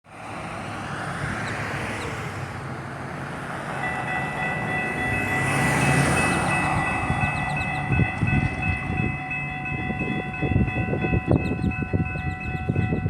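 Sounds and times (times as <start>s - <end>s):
diesel freight train rumbling: 0.1s - 13.0s.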